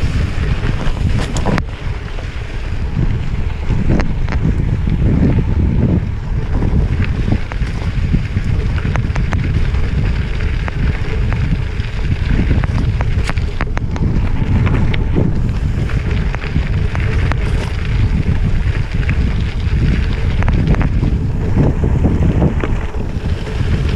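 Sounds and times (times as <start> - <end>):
sharp clicks and rattles: 0.0 - 23.9
wind buffeting microphone: 0.0 - 23.9.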